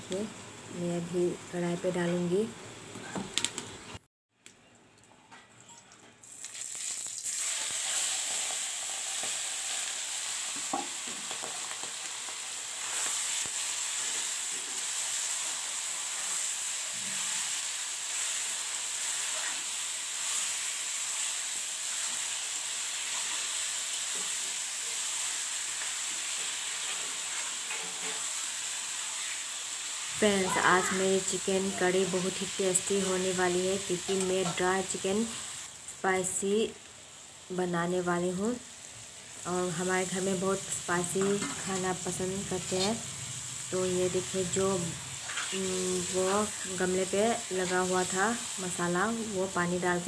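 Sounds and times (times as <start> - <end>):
chicken sizzling in hot oil: 6.2 - 50.0.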